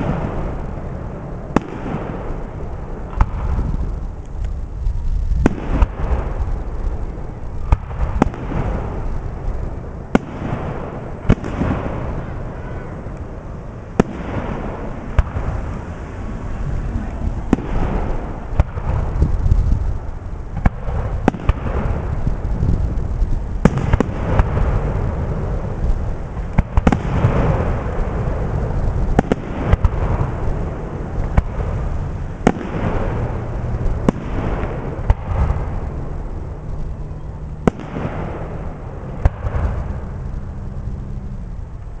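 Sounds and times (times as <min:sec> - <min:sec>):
firework shells bursting: 0:00.0 - 0:37.0
low rumble of booms and echoes: 0:00.0 - 0:42.0.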